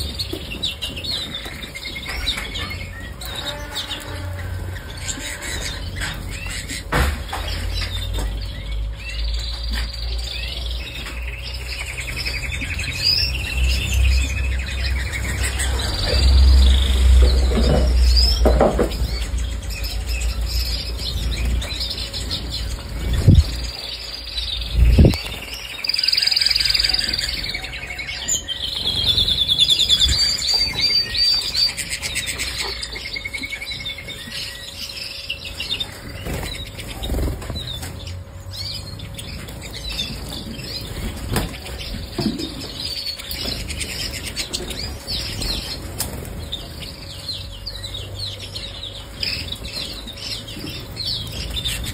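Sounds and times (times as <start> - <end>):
canaries singing: 0.0 - 51.9.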